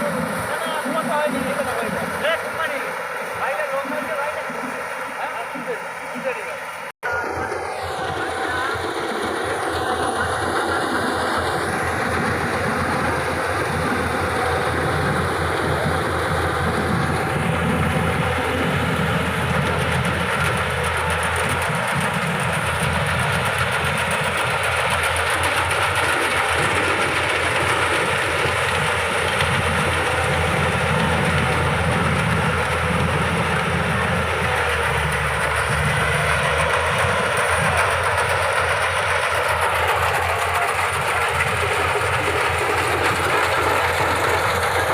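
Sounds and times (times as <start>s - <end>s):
diesel engine running: 0.0s - 44.9s
fast even mechanical clatter: 8.9s - 44.9s.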